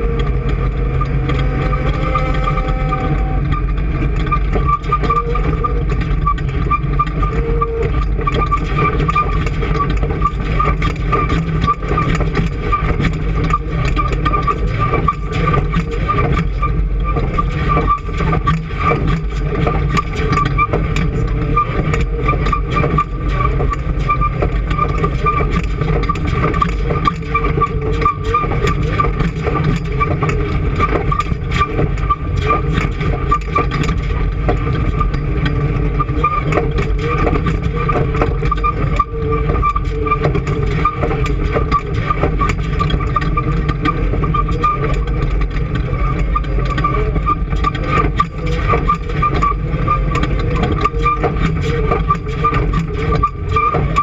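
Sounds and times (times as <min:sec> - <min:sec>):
engine running steadily: 0:00.0 - 0:54.0
small clicks and rattles: 0:00.0 - 0:54.0.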